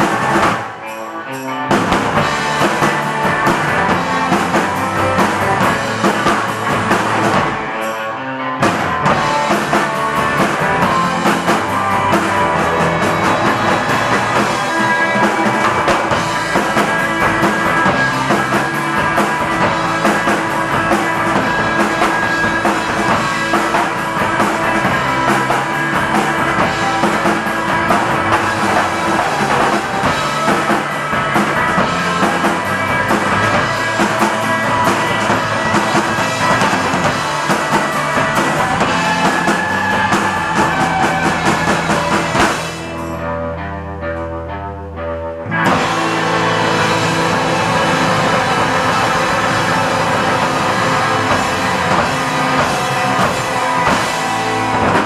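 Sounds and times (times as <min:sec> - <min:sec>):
drums pounding: 0:00.0 - 0:01.0, 0:01.6 - 0:08.0, 0:08.6 - 0:43.2, 0:45.6 - 0:55.0
rock band playing: 0:00.0 - 0:55.0.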